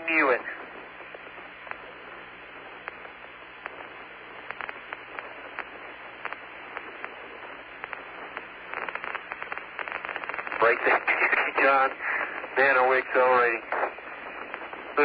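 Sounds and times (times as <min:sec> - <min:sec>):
crackling clicks: 0:00.0 - 0:15.0
radio static hiss: 0:00.0 - 0:15.0.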